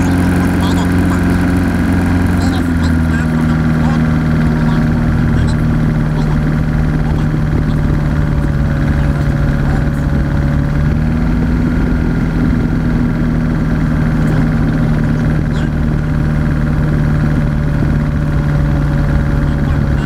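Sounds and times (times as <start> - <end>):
light aircraft engine running: 0.0 - 20.0.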